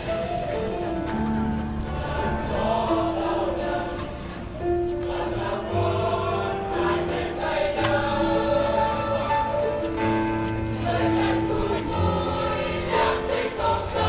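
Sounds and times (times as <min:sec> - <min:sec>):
church choir singing a hymn: 0:00.0 - 0:14.0.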